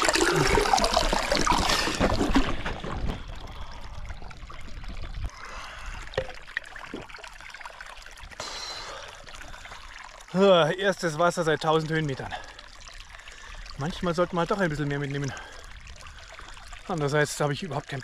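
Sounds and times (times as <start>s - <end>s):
water gushing into a plastic bottle: 0.0s - 18.0s
water splashing into a pool: 0.0s - 18.0s.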